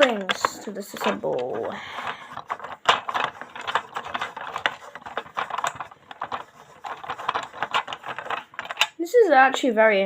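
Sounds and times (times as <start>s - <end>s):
plastic toy parts clicking: 0.0s - 9.0s.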